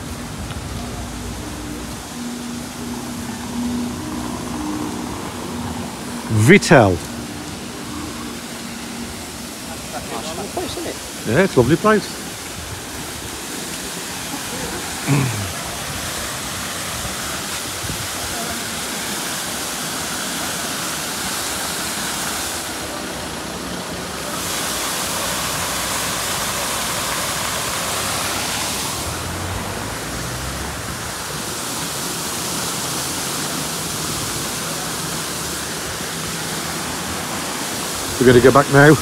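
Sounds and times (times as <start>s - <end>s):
fountain water splashing: 0.0s - 39.0s.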